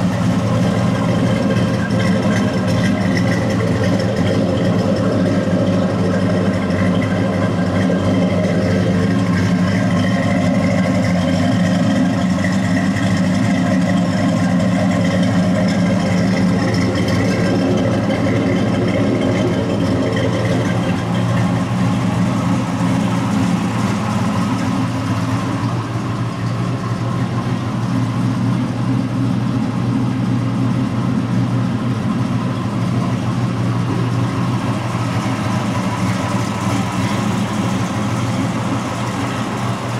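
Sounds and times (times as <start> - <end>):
pickup engine idling: 0.0 - 39.9.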